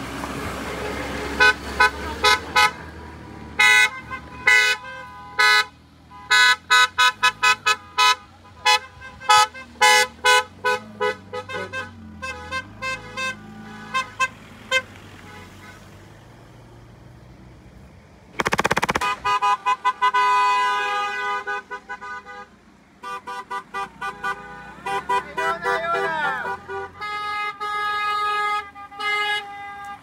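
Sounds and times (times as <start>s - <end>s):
car horns honking: 0.5s - 2.9s, 3.5s - 16.1s, 18.8s - 30.0s.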